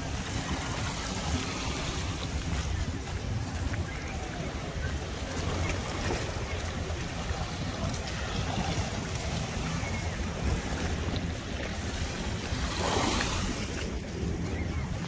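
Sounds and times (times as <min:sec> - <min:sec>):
sea waves washing: 0:00.0 - 0:15.0
wind rumble on microphone: 0:00.0 - 0:15.0.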